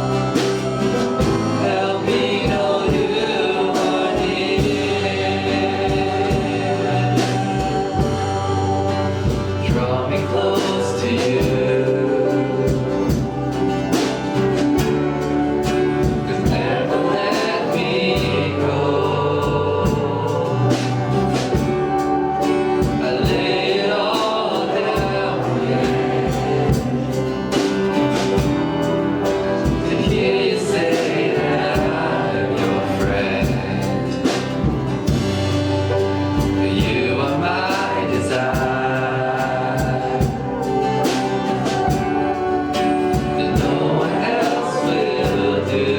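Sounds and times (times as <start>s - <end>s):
instrumental accompaniment with beat: 0.0s - 45.9s
voices singing together: 0.0s - 45.9s.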